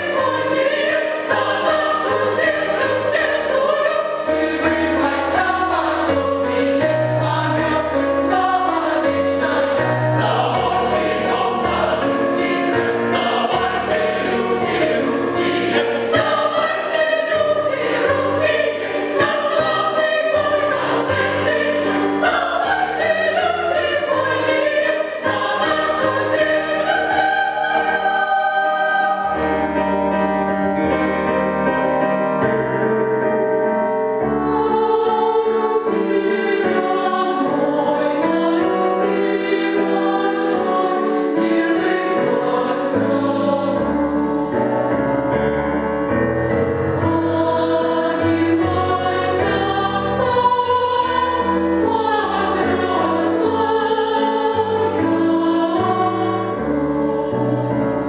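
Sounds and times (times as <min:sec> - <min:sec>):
mixed choir singing in harmony: 0:00.0 - 0:58.0.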